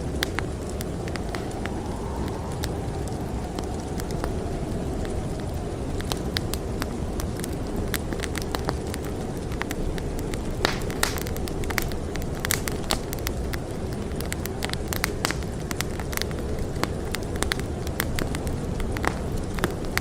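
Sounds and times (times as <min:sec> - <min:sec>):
low rumble of storm wind: 0:00.0 - 0:20.0
wood fire crackling and popping: 0:00.0 - 0:20.0.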